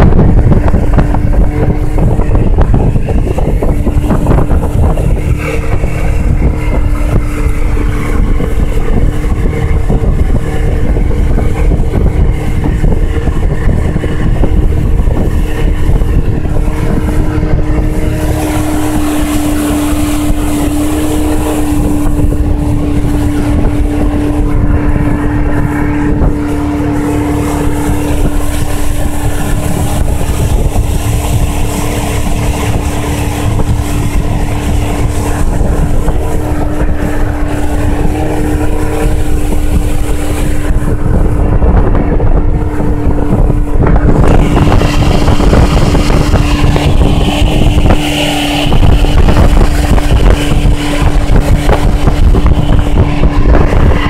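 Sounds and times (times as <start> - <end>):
hull moving over water: 0.0 - 54.0
outboard motor running: 0.0 - 54.0
wind noise on microphone: 0.0 - 54.0.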